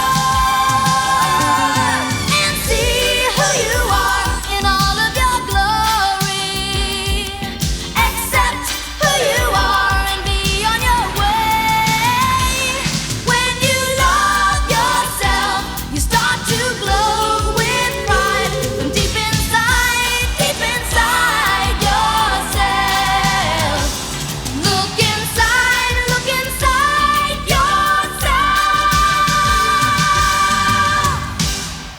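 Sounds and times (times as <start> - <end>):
pop song with singing: 0.0 - 31.9.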